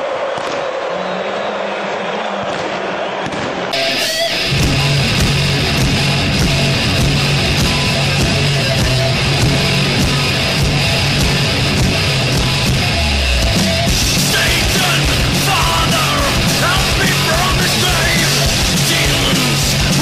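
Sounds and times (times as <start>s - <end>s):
heavy metal music with guitar: 3.8s - 20.0s.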